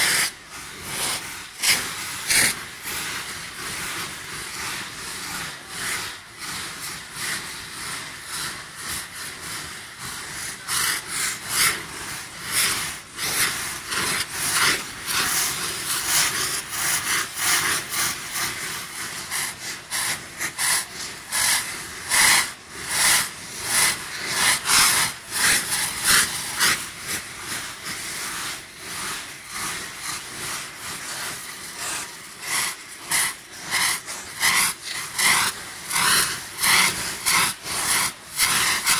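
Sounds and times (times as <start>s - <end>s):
fireworks hissing and spraying sparks: 0.0s - 38.9s.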